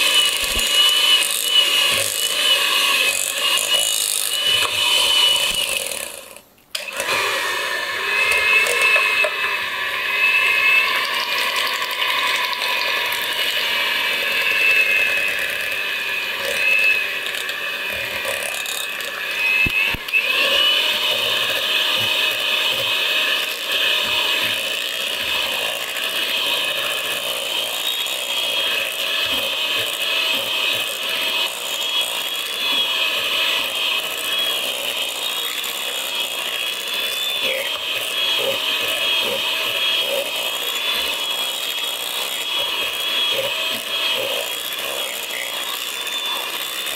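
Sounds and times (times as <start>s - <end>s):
electric hand mixer whining: 0.0s - 46.9s.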